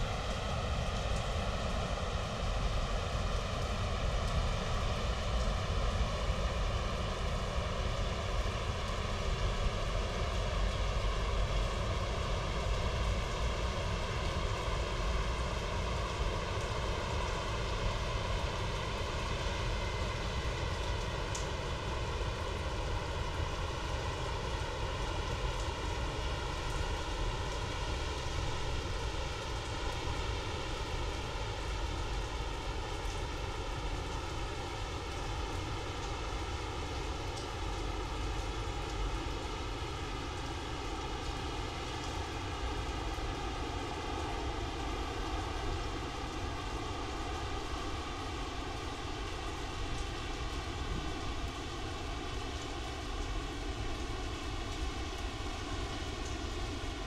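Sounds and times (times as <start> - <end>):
heavy rain on pavement: 0.0 - 57.0
rain splashing into water: 0.0 - 57.0.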